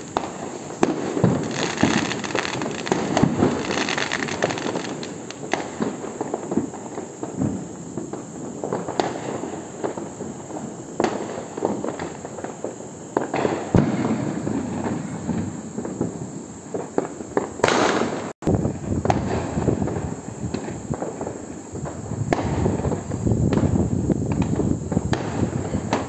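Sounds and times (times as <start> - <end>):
firecracker bangs and crackles: 0.0 - 26.0
rushing hiss: 0.0 - 26.0.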